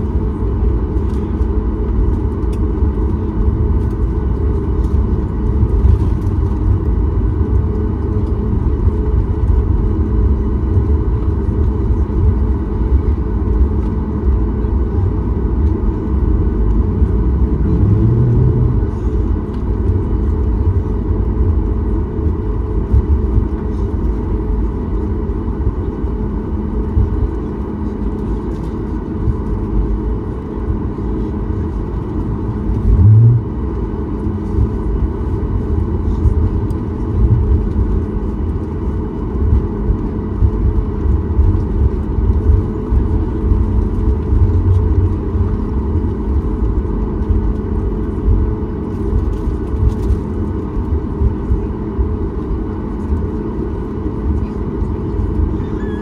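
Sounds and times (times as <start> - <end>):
airplane cabin rumble: 0.0 - 56.0
low hum: 0.0 - 56.0.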